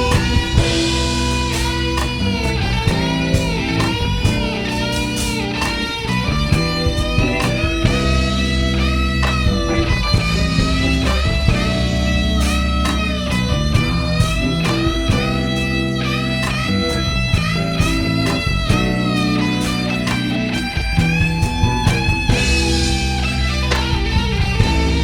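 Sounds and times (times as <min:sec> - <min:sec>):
electric guitar bent notes: 0:00.0 - 0:25.0
live blues-rock band: 0:00.0 - 0:25.0.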